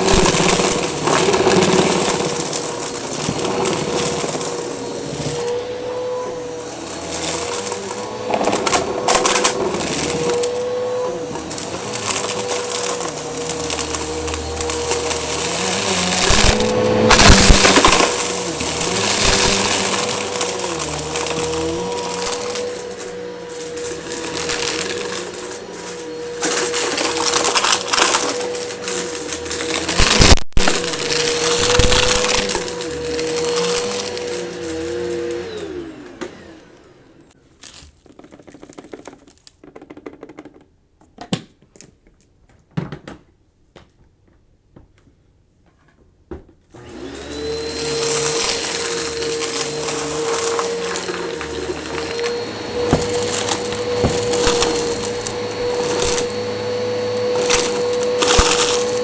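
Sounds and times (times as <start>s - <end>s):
debris crunching being sucked up: 0.0s - 36.2s, 46.8s - 59.0s
vacuum cleaner motor whine: 0.0s - 37.4s, 46.7s - 59.0s.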